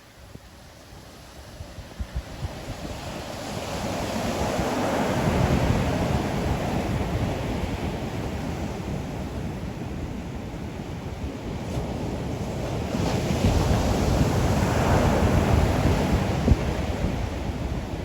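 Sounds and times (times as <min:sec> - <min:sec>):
ocean waves breaking on beach: 0:00.1 - 0:18.0
wind gusts buffeting microphone: 0:00.3 - 0:18.0.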